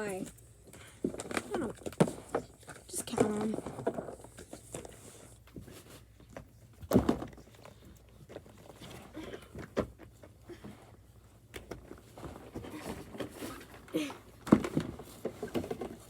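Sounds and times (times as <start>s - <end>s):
fidget toys knocking and rustling: 0.0s - 10.4s, 11.5s - 16.0s.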